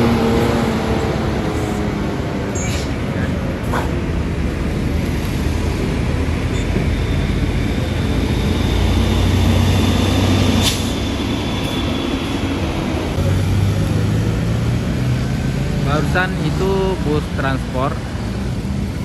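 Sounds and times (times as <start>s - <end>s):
bus diesel engine rumble: 0.0s - 19.0s
traffic: 0.0s - 19.0s.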